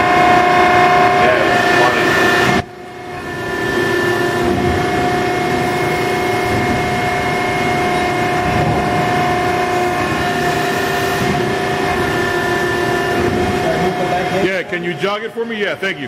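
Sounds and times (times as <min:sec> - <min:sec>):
hydraulic press drone with whine: 0:00.0 - 0:15.9.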